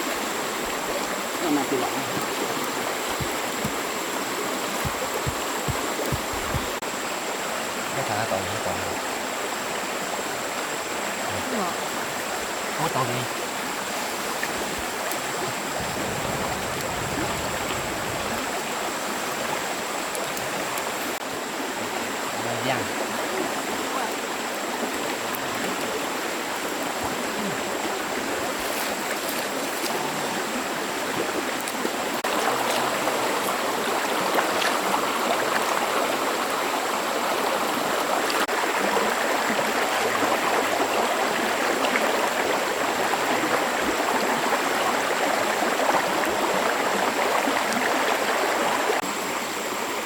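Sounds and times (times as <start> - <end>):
stream water running: 0.0 - 50.0.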